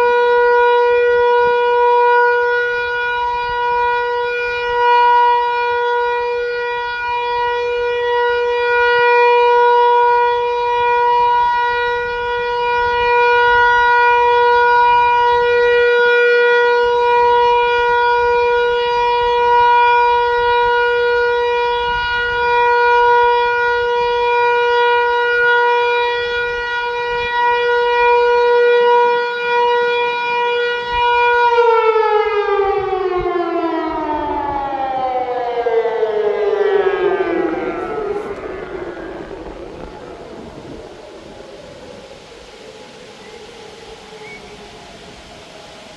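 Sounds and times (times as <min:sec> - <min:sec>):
siren steady tone: 0:00.0 - 0:45.9.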